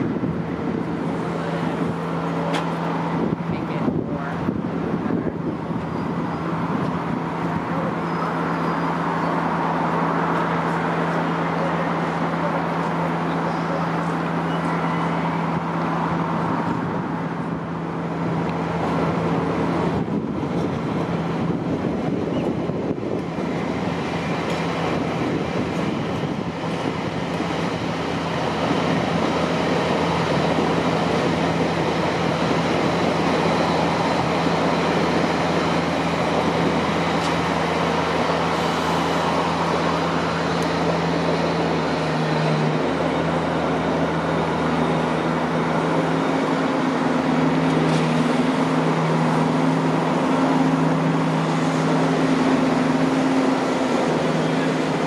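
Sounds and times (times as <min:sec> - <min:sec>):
train rail rumble: 0:00.0 - 0:55.0.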